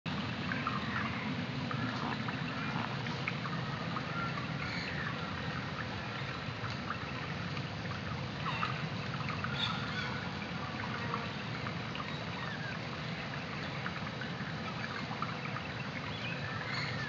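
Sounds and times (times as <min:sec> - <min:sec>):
creek water flowing: 0:00.1 - 0:17.0.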